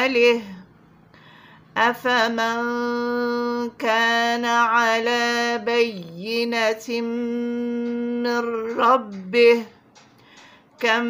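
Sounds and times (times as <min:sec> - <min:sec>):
woman chanting recitation: 0:00.0 - 0:00.7, 0:01.7 - 0:09.8, 0:10.6 - 0:11.0.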